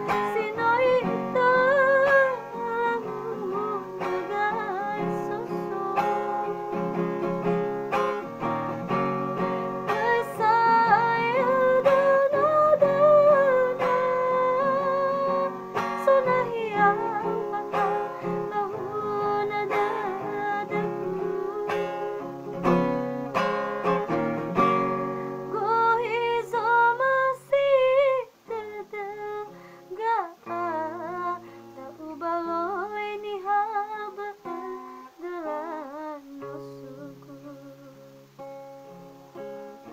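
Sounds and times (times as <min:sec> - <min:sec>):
woman singing with vibrato: 0:00.0 - 0:23.9, 0:24.6 - 0:39.0
acoustic guitar: 0:00.0 - 0:39.9.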